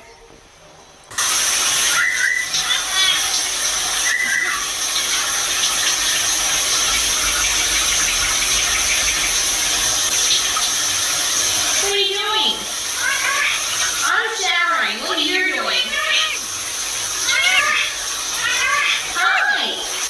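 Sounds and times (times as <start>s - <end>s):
water running from a tap: 1.1s - 20.0s.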